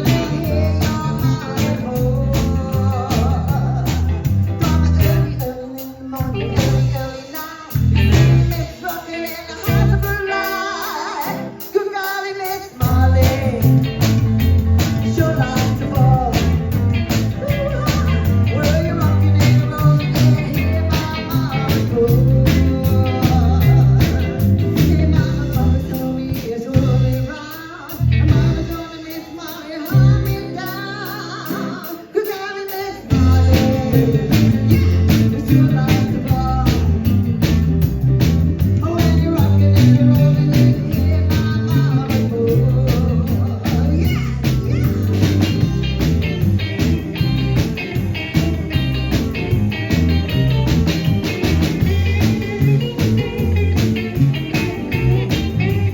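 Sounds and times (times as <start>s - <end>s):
fast steady drum beat: 0.0s - 11.7s, 12.5s - 29.3s, 33.1s - 55.9s
person singing: 0.0s - 37.6s, 38.6s - 55.9s
bass: 0.0s - 55.9s
guitar: 0.0s - 55.9s.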